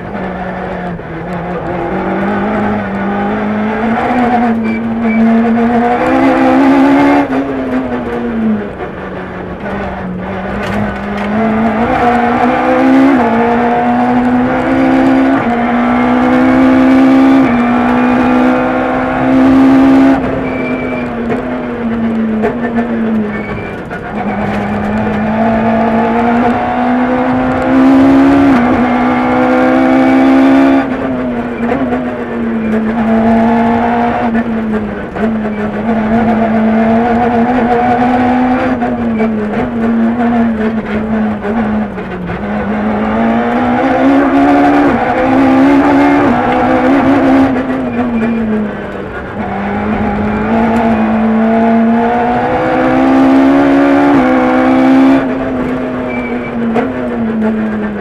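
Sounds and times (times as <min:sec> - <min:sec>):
car engine revving through gears: 0:00.0 - 0:58.0.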